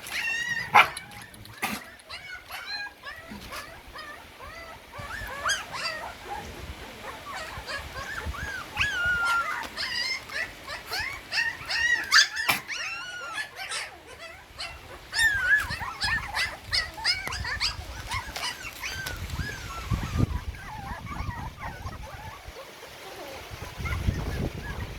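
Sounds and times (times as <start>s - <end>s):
puppies whimpering and squealing: 0.0s - 24.9s.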